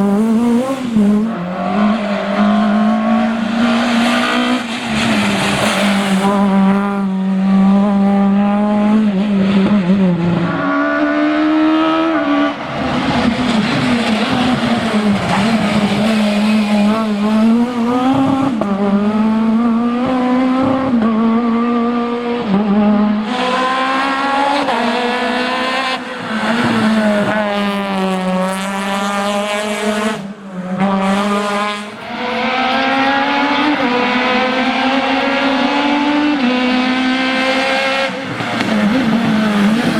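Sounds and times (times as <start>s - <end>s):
rally car engine revving through gears: 0.0s - 39.9s.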